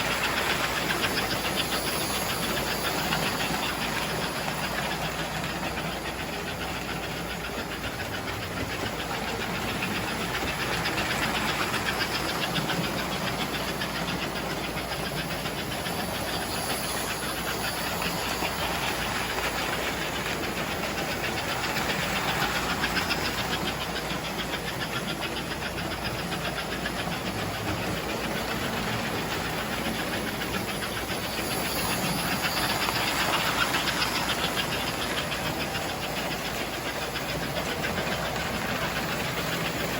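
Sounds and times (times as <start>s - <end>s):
toy train motor whirring: 0.0s - 39.9s
wheels clicking on track: 0.0s - 39.9s.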